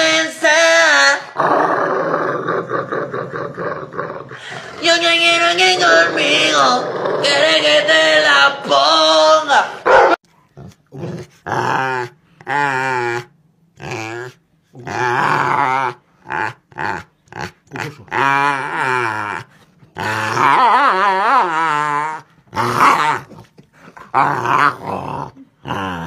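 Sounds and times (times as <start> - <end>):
dog growling: 1.4 - 8.0, 9.9 - 26.0.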